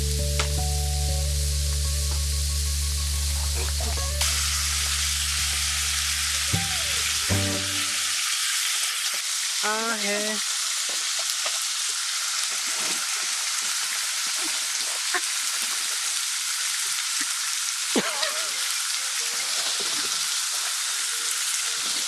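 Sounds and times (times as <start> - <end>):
meat sizzling in a pan: 0.1 - 22.0.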